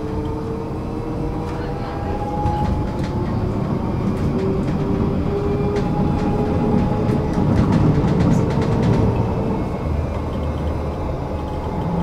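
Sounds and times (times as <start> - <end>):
tram rumbling on rails: 0.0 - 12.0
wheels clicking on track: 0.0 - 12.0.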